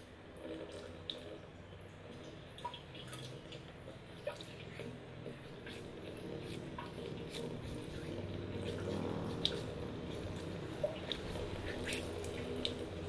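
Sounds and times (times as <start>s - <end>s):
water splashing in basin: 2.0s - 13.0s.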